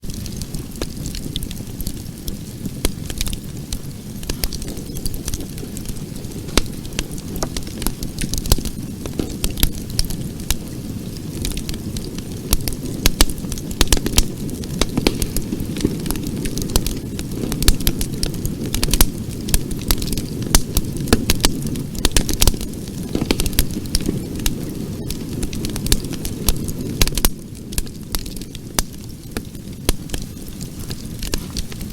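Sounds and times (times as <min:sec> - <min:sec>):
burning wood crackling and popping: 0:00.0 - 0:31.9
low rumble of flames: 0:00.0 - 0:31.9.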